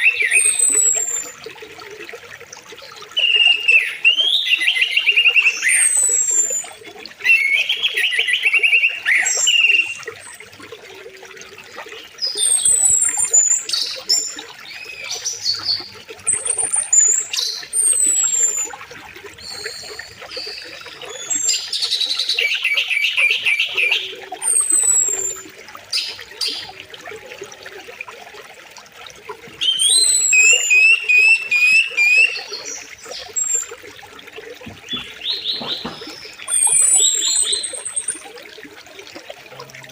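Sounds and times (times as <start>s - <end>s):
songbirds singing and calling: 0.0s - 1.7s, 2.6s - 10.6s, 11.8s - 26.9s, 29.4s - 38.4s.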